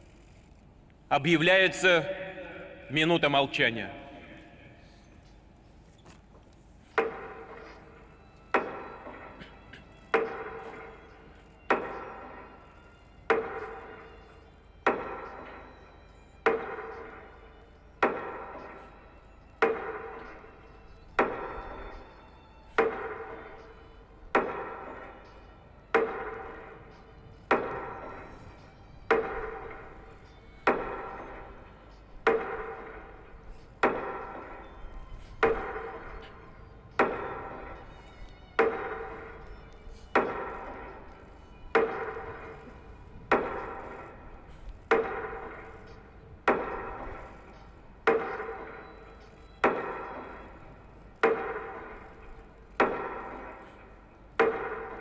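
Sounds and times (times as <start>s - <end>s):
metronome knocking and ringing: 10.1s - 23.7s, 24.3s - 55.0s.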